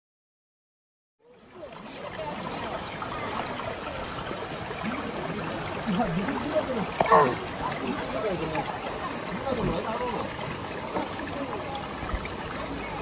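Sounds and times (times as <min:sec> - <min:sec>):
stream running over rocks: 0:01.2 - 0:13.0.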